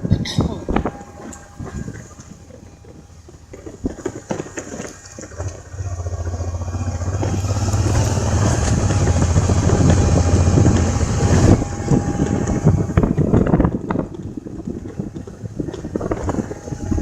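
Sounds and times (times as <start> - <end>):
road and wind noise: 0.0 - 17.0
vehicle engine droning: 0.0 - 17.0.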